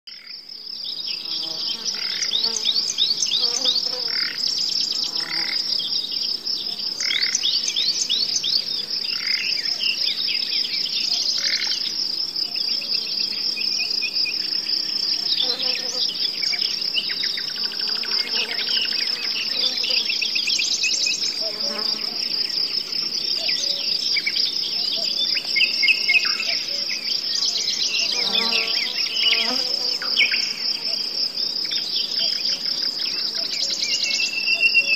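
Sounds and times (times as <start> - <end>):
high-pitched insect trill: 0.1 - 34.9.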